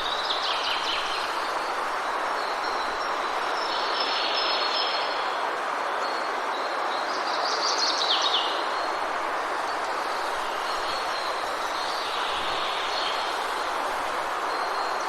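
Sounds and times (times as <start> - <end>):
rain falling in a forest: 0.0 - 15.0.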